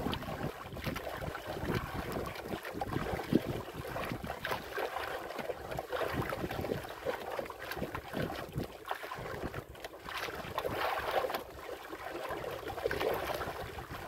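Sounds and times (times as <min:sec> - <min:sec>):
wind on microphone: 0:00.0 - 0:11.3, 0:12.5 - 0:14.0
water splashing against boat hull: 0:00.0 - 0:14.0.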